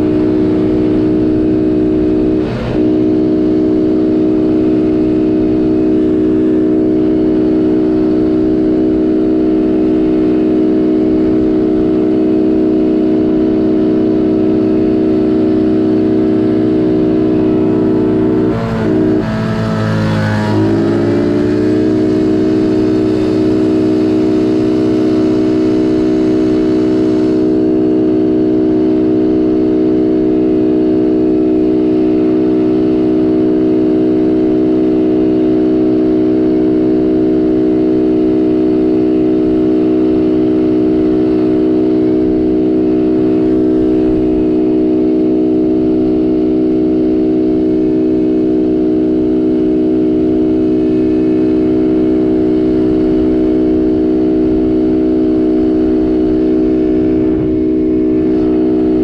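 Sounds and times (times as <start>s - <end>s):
quad engine running steadily: 0.0s - 59.0s.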